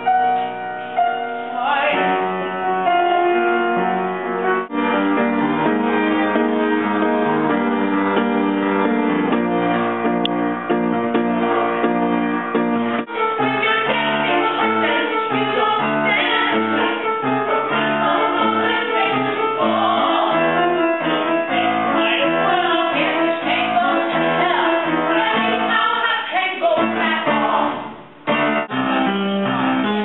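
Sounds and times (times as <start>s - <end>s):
piano accompaniment: 0.0s - 30.0s.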